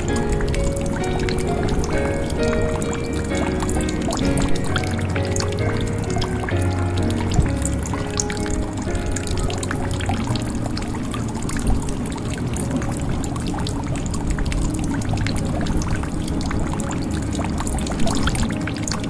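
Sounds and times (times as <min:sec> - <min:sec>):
water pouring into a jug: 0:00.0 - 0:19.0.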